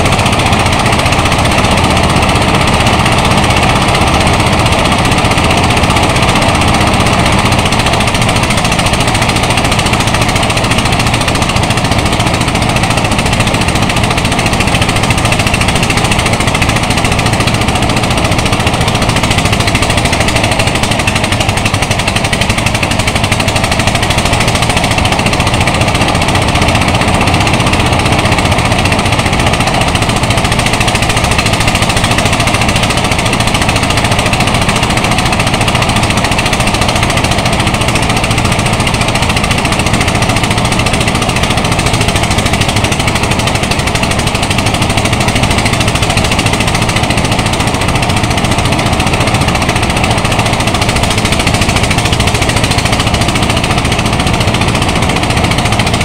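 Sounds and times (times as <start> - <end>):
rice thresher engine running: 0.0 - 56.0.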